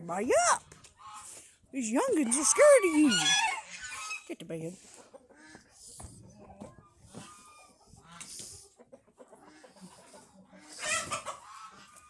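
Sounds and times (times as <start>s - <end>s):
chickens clucking softly: 0.6s - 12.0s.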